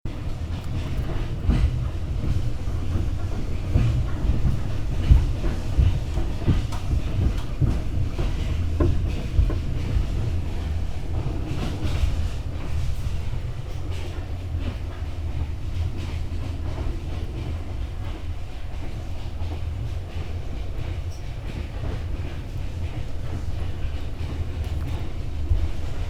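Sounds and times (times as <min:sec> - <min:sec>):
train rumbling on rails: 0:00.1 - 0:26.0
train wheels clattering: 0:00.1 - 0:26.0.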